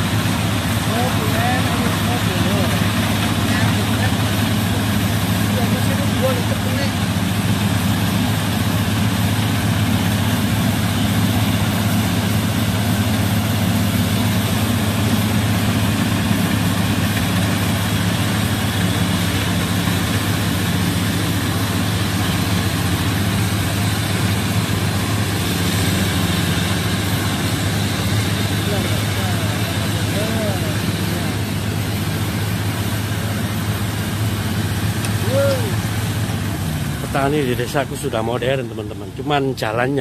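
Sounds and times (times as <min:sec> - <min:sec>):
combine harvester engine drone: 0:00.0 - 0:40.0.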